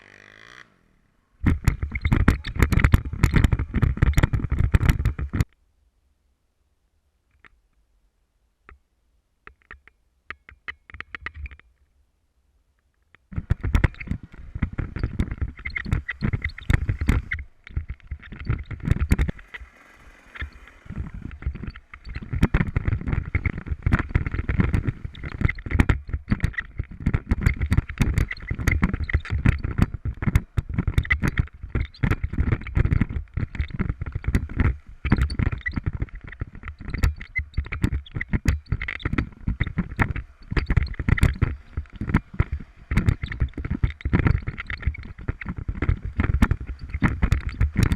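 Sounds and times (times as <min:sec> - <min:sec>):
loud rumbling with knocks: 0:01.4 - 0:05.5, 0:13.4 - 0:47.9
faint clicks: 0:01.4 - 0:05.6, 0:07.3 - 0:07.8, 0:12.7 - 0:47.9.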